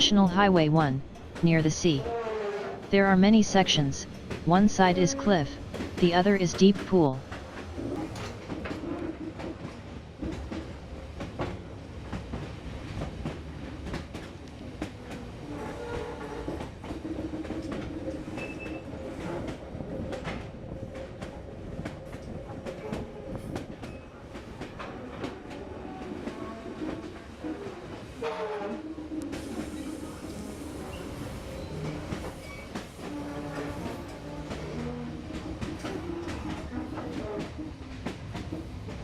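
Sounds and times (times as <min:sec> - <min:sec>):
train rumbling on rails: 0:00.8 - 0:01.4, 0:04.0 - 0:04.6, 0:05.5 - 0:39.0.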